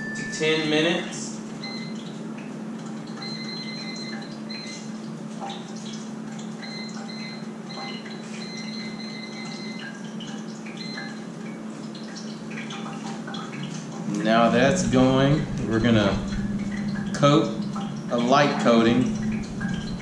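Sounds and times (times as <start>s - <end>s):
air fryer humming: 0.0s - 20.0s
water running in sink: 0.0s - 20.0s.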